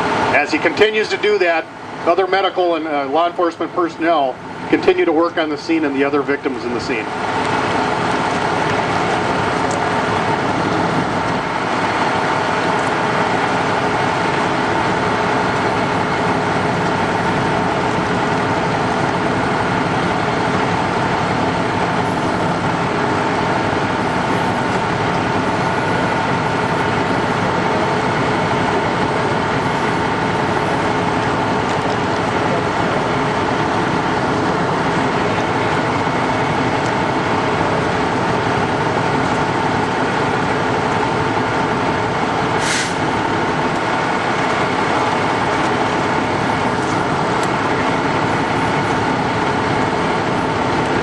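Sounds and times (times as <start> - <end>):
engine idling rumble: 0.0 - 51.0.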